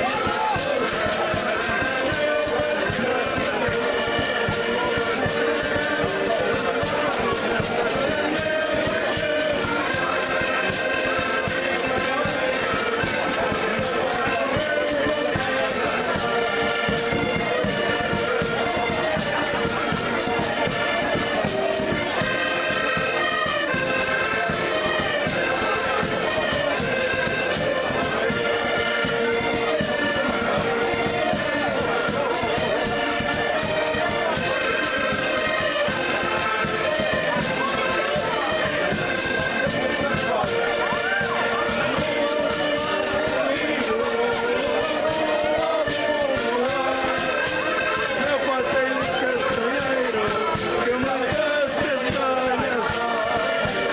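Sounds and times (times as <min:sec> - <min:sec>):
button accordions playing: 0:00.0 - 0:53.9.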